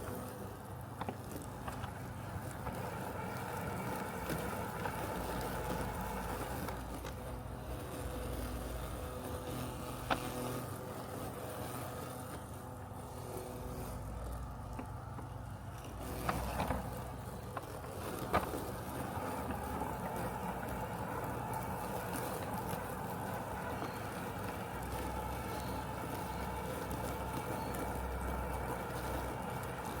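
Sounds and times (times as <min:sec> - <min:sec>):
robotic lawn mower humming: 0:00.0 - 0:30.0.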